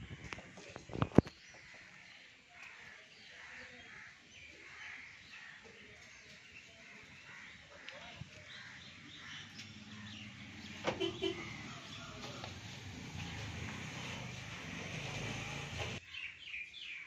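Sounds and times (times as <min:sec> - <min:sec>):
distant birds calling: 0:00.0 - 0:17.0.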